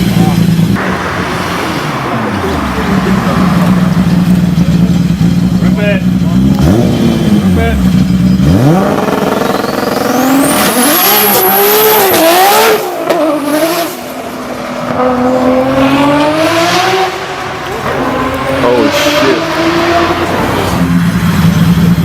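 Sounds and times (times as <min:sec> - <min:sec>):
turbocharged car engine accelerating: 0:00.0 - 0:22.0.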